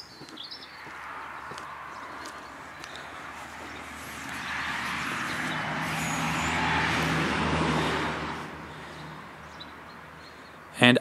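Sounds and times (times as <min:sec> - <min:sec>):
vehicle passing by: 0:00.6 - 0:10.7.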